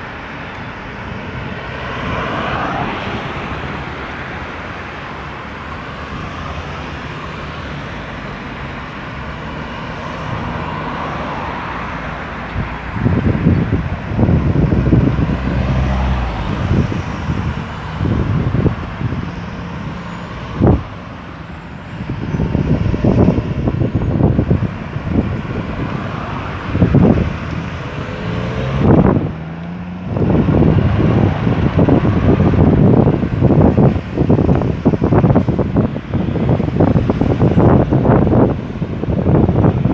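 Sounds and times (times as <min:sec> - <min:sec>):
vehicle engines passing: 0:00.0 - 0:39.9.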